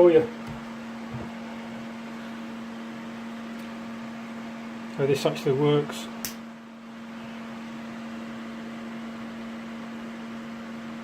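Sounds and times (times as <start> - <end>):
extractor fan running: 0.0 - 11.0.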